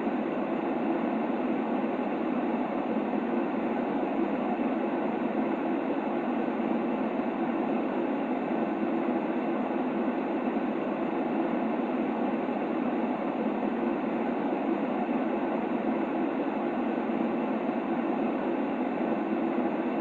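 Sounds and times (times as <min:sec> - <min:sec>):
continuous white noise: 0:00.0 - 0:20.0.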